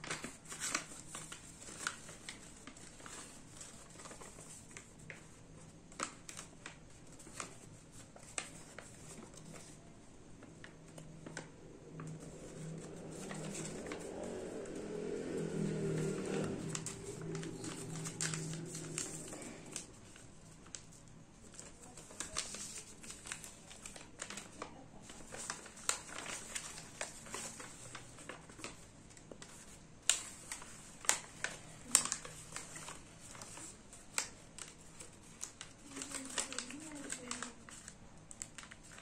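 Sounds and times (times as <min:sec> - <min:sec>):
paper crinkling as it is folded: 0:00.0 - 0:39.0.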